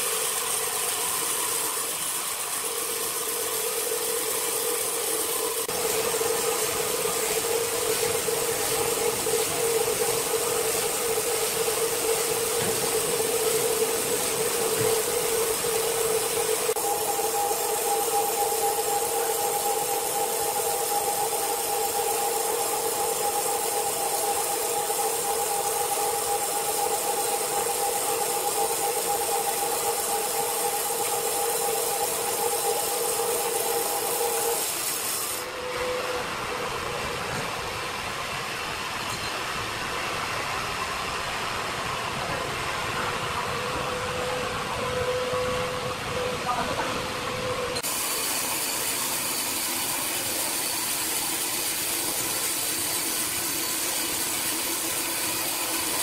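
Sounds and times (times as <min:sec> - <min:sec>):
band saw blade whining: 0:00.0 - 0:38.0, 0:43.0 - 0:56.0.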